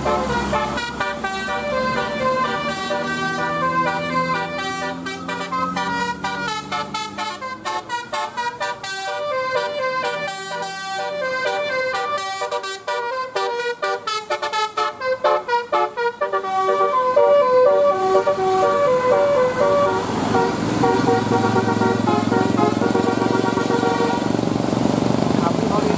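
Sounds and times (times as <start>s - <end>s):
bus horn playing a melody: 0.0s - 24.4s
engine and road noise: 0.0s - 25.9s.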